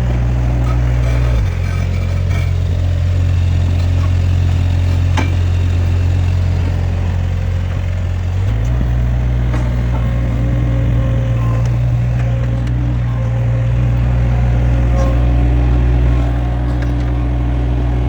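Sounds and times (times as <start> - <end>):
skid steer diesel engine running: 0.0 - 18.0.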